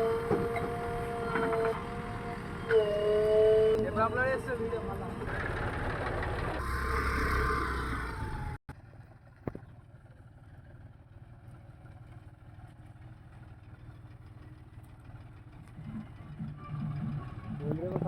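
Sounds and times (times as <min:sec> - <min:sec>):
diesel engine running loud: 0:00.0 - 0:08.6, 0:11.9 - 0:18.0
faint low engine hum: 0:00.0 - 0:18.0.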